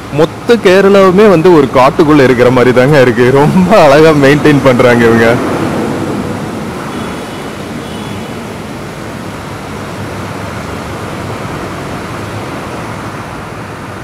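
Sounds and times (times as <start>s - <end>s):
steady rushing background noise: 0.0s - 14.0s.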